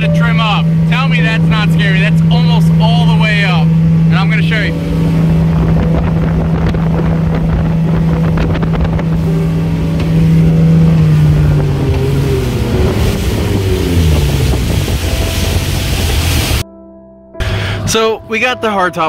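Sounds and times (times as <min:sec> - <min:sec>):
outboard motor drone: 0:00.0 - 0:16.6
wind and water rushing: 0:00.0 - 0:16.6.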